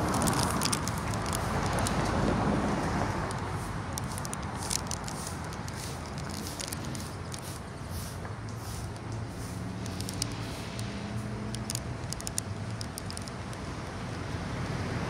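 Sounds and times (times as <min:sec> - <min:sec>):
light crackling clicks: 0:00.0 - 0:02.2, 0:03.1 - 0:07.5, 0:08.4 - 0:14.2
car passing: 0:00.0 - 0:15.0.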